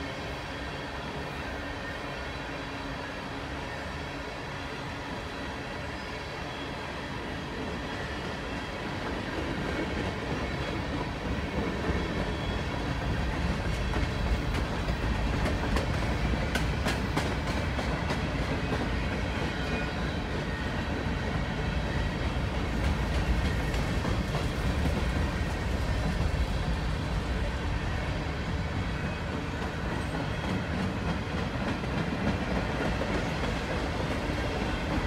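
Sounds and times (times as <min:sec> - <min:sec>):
freight train wheels clickety-clack: 0:00.0 - 0:35.0.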